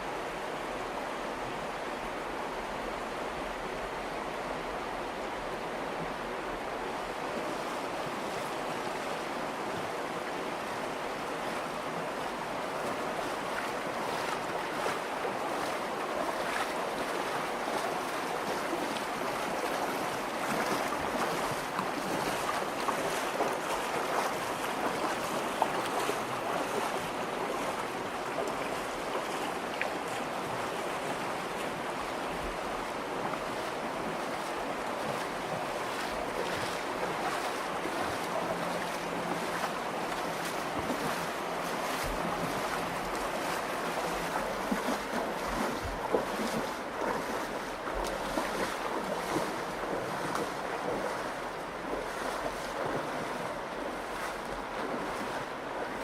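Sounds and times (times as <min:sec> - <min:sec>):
river rushing over rocks: 0:00.0 - 0:56.0
small water splashes: 0:07.4 - 0:56.0.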